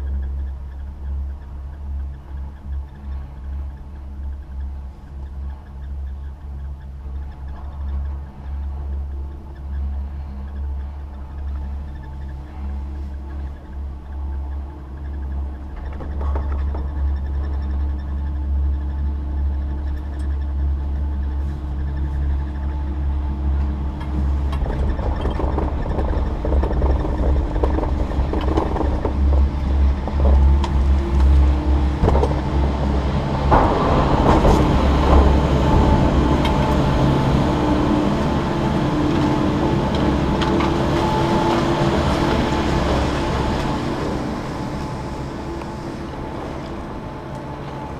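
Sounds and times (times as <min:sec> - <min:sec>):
chairlift machinery hum and rumble: 0:00.0 - 0:47.9
rushing machine noise: 0:00.0 - 0:47.9.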